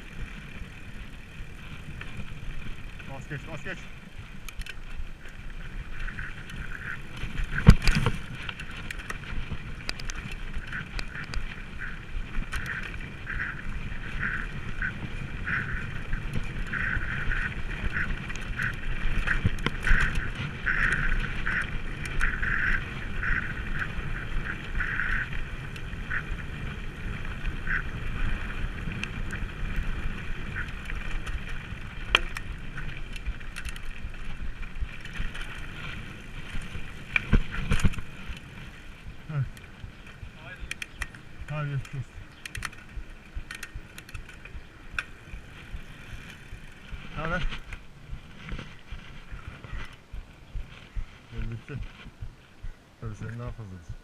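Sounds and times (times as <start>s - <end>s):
bike tyres rolling on trail: 0.0s - 54.0s
wind rumble: 0.0s - 54.0s.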